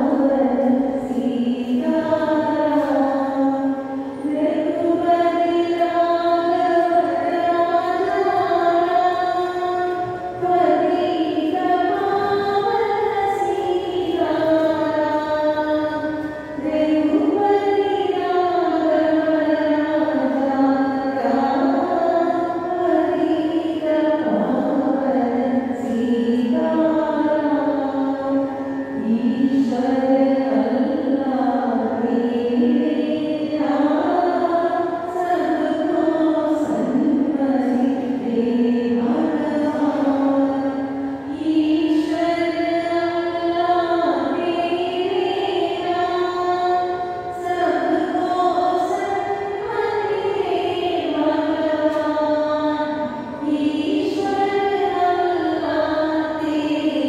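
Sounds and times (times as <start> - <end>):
women singing a prayer chant: 0.0 - 57.0.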